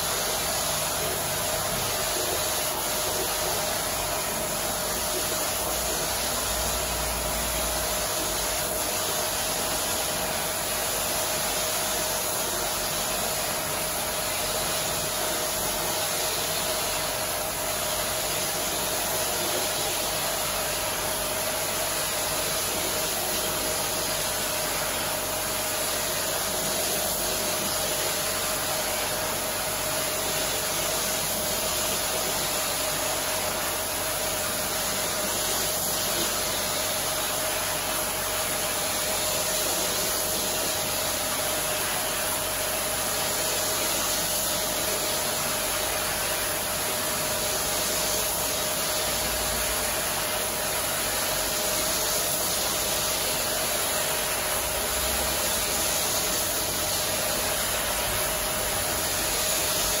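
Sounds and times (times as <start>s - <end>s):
pressure washer spray hiss: 0.0s - 60.0s.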